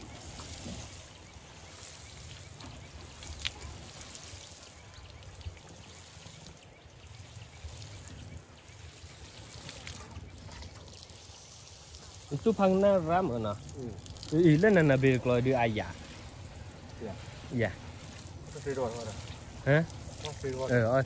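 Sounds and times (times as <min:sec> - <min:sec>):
watering can spraying water: 0:00.0 - 0:21.0.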